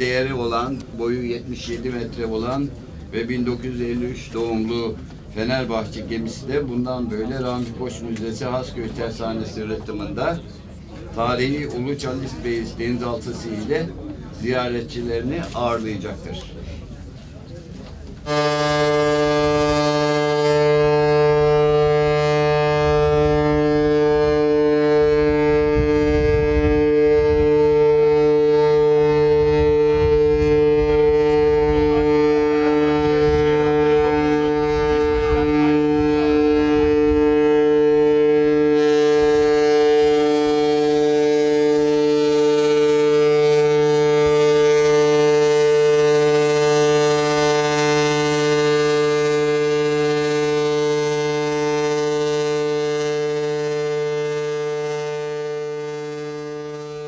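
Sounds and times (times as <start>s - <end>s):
ship's horn deep blast: 0.0s - 57.0s.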